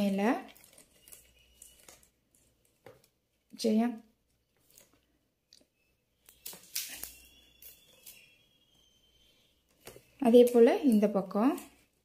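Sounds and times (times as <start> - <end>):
plastic strands scraping and rustling: 0.0 - 3.6, 4.2 - 5.2, 6.1 - 12.0.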